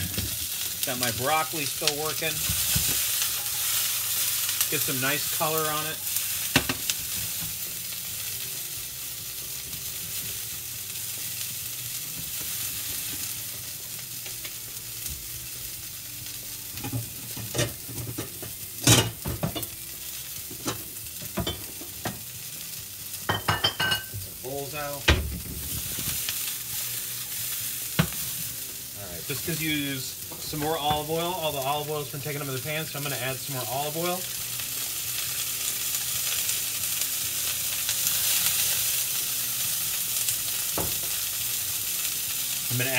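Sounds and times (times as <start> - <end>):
vegetables sizzling in oil: 0.0 - 42.9.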